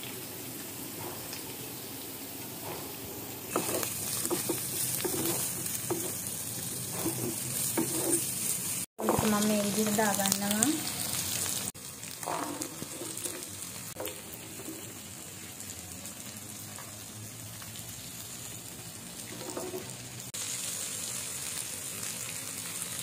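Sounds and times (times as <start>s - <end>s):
food sizzling in oil: 3.2s - 23.0s.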